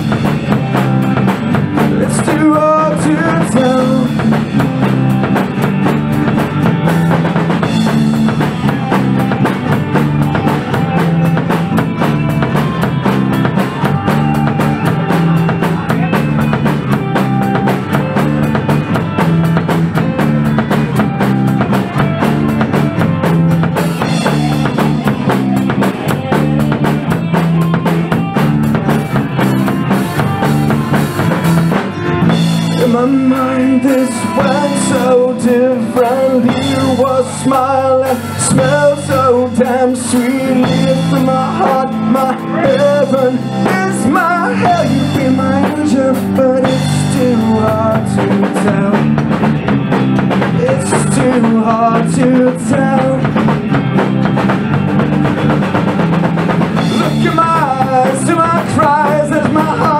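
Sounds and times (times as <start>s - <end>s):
drum kit beat: 0.0s - 59.9s
rock band playing: 0.0s - 59.9s.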